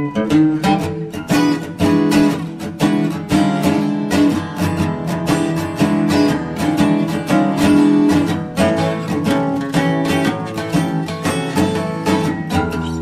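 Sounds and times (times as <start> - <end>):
acoustic guitar music with beat: 0.0 - 13.0.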